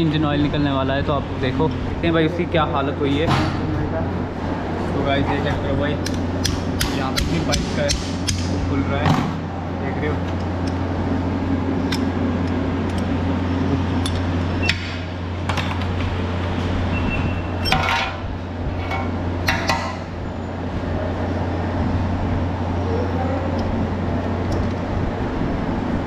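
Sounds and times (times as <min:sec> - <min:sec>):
low workshop hum: 0:00.0 - 0:26.0.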